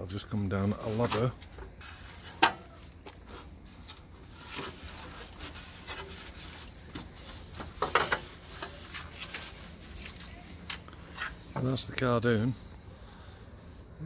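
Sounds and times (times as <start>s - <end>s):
rustles: 0.5s - 14.0s.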